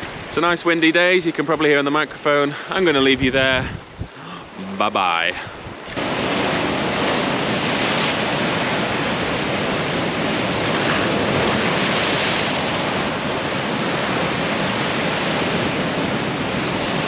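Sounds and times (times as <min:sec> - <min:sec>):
waves breaking on shore: 0:00.0 - 0:17.0
wind buffeting microphone: 0:02.8 - 0:17.0.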